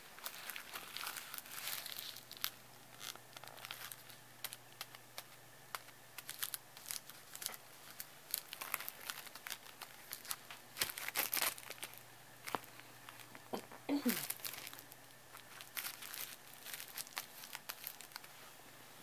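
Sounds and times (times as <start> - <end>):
cellophane crinkling: 0.0 - 18.6.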